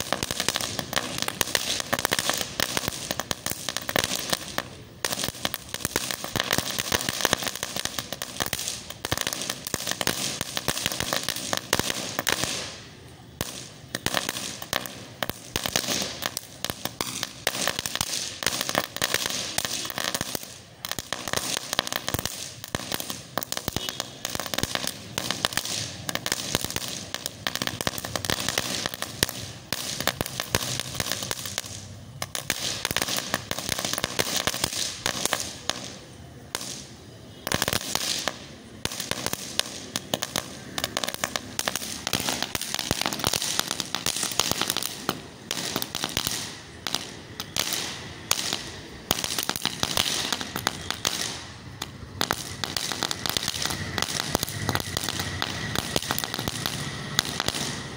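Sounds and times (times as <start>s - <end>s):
firework crackling: 0.0s - 57.9s.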